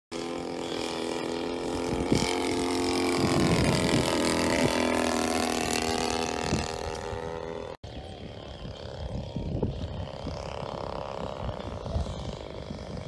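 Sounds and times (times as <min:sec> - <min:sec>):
model airplane engine droning: 0:00.1 - 0:13.0.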